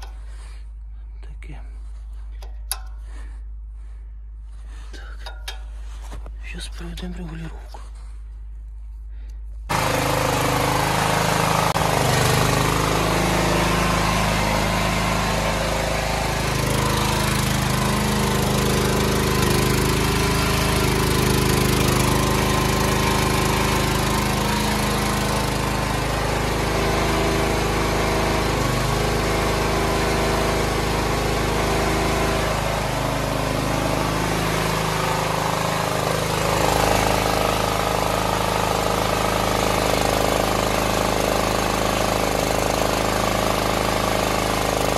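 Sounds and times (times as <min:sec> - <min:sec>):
small generator engine running: 0:00.0 - 0:44.9.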